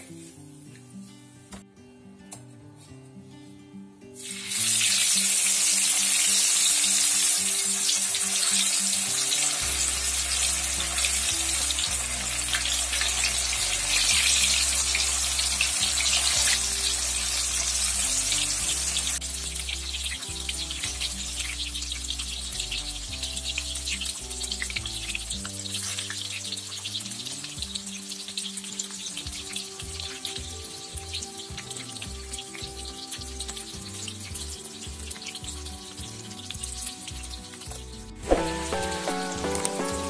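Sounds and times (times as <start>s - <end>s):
soft background music: 0.0s - 40.0s
food sizzling in hot oil: 4.2s - 40.0s.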